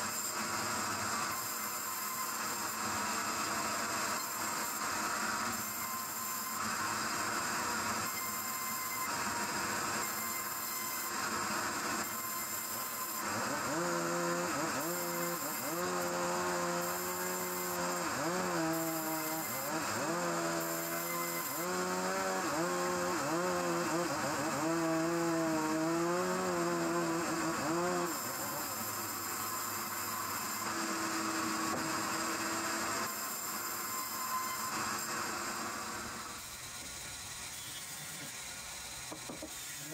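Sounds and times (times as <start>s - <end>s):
band saw cutting timber: 0.0s - 39.9s
pitched saw whine: 0.0s - 39.9s.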